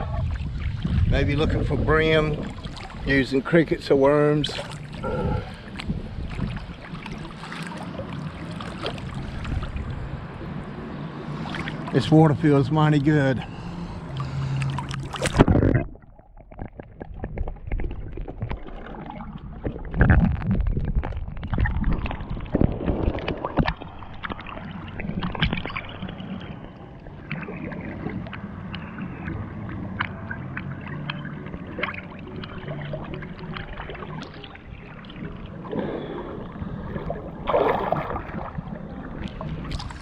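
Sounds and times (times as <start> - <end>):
water splashing around a boat: 0.0 - 40.0.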